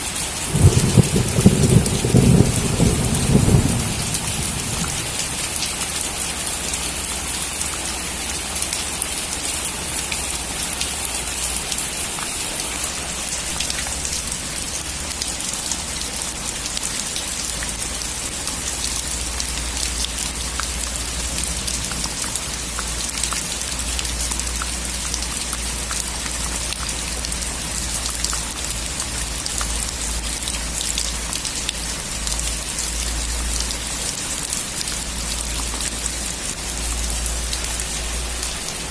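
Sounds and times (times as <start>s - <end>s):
rain hissing: 0.0s - 15.7s, 17.8s - 38.9s
raindrops ticking: 0.0s - 38.9s.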